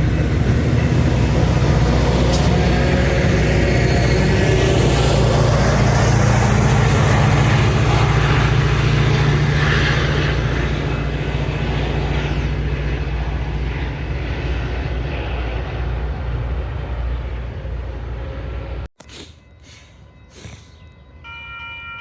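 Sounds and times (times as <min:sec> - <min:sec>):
train engine drone: 0:00.0 - 0:22.0
train rolling noise: 0:00.0 - 0:22.0.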